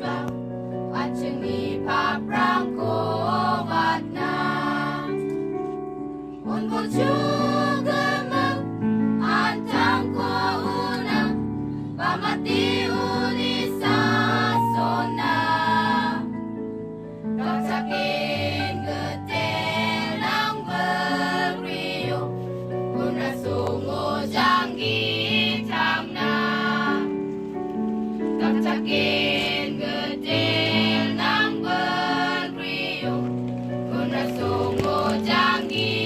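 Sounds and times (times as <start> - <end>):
choir singing held notes: 0.0 - 5.2, 6.4 - 16.4, 17.4 - 22.3, 22.9 - 27.2, 28.2 - 33.2, 33.8 - 36.0.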